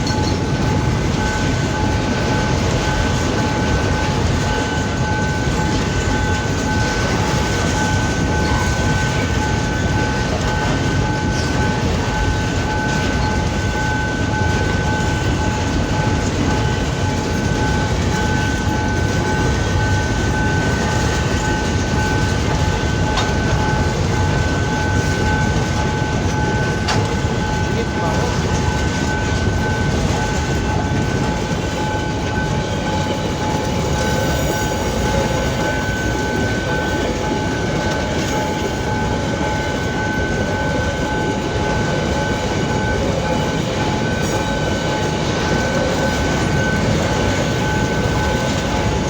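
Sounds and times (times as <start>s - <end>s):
freight train wagons rumbling: 0.0s - 49.0s
steady high-pitched tone: 0.0s - 49.0s
wheels clickety-clack: 0.0s - 49.0s.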